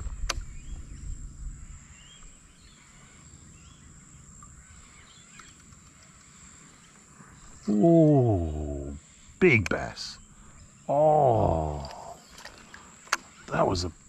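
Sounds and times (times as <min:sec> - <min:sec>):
faint bird chirps: 0:00.0 - 0:14.0
high-pitched insect whine: 0:00.0 - 0:14.0.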